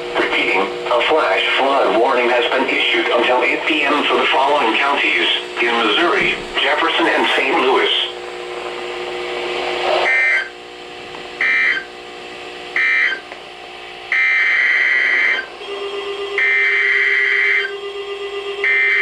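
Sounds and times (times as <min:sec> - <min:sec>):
radio static hiss: 0:00.0 - 0:15.6
faint steady tones: 0:00.0 - 0:19.0.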